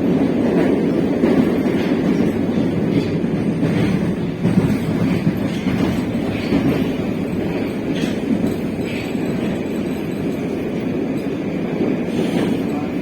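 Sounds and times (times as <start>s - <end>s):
wheels clacking over rail joints: 0.0s - 11.4s
train rumbling in tunnel: 0.0s - 13.0s.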